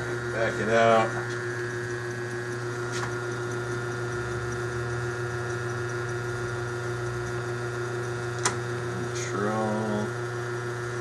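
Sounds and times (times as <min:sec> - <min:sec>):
lathe motor hum and whine: 0:00.0 - 0:11.0.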